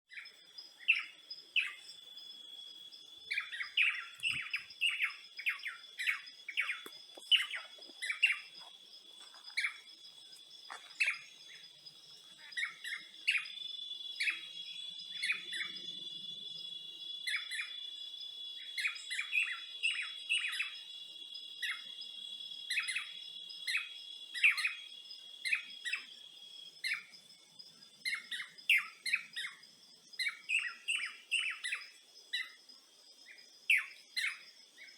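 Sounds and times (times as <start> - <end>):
birds chirping: 0.1 - 34.9
high-pitched insect drone: 0.1 - 34.9.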